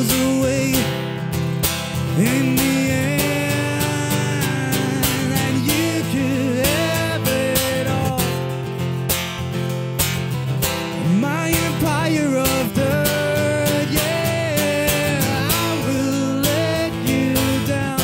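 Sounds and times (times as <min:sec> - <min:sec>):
man singing: 0:00.0 - 0:01.3, 0:01.9 - 0:08.7, 0:10.9 - 0:18.0
acoustic guitar strumming: 0:00.0 - 0:18.0.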